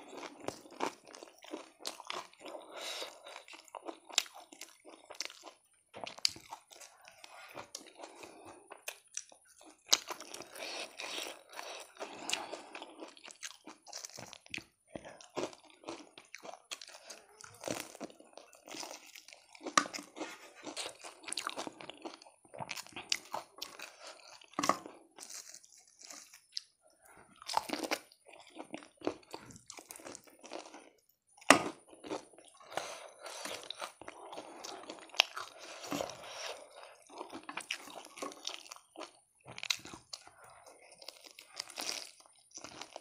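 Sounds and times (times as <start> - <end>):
crunching fried chicken: 0.0 - 26.8, 27.4 - 43.0.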